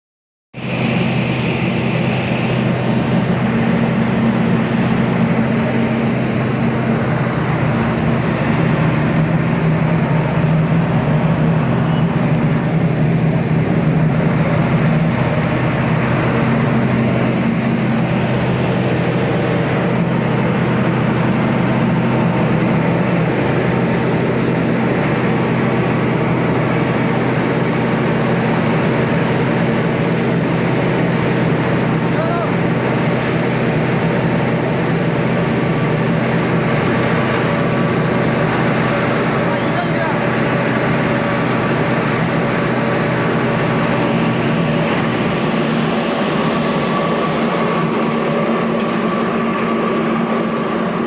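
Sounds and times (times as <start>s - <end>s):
concrete mixer pump engine drone: 0.6s - 51.0s.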